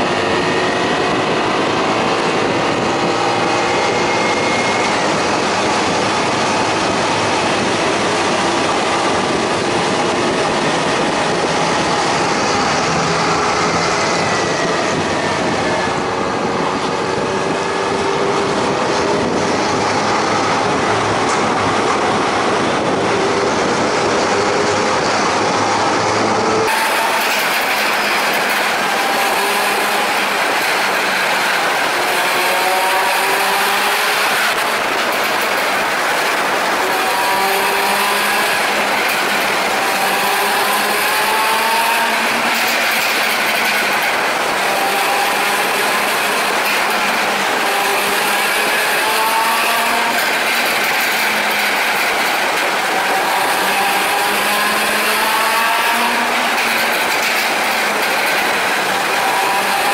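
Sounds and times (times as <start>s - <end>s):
motorcycle engine at speed: 0.0s - 59.9s
wind and road noise: 0.0s - 59.9s.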